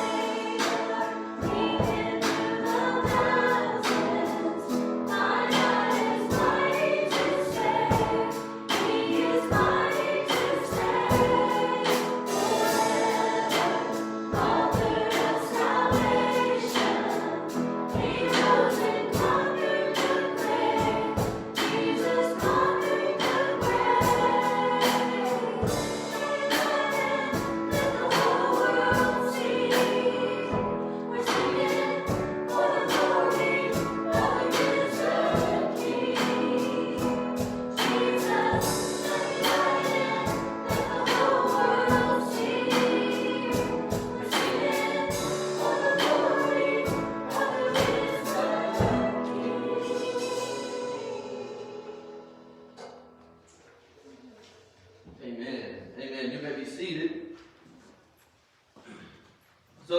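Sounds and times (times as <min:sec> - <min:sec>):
band with steady beat: 0:00.0 - 0:51.0
voices singing together: 0:00.0 - 0:53.0.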